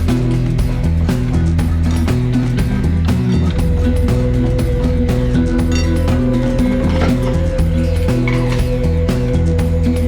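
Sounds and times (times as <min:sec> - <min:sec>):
music with beat and plucked strings: 0:00.0 - 0:10.0.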